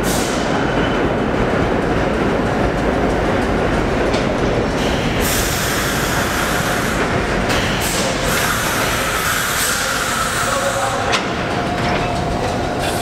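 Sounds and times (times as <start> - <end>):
subway train wheels rumbling on rail: 0.0 - 13.0.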